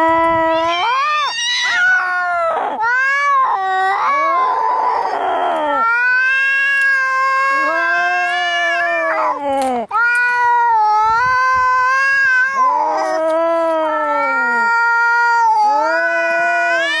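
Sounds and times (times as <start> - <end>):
cats yowling: 0.0 - 17.0.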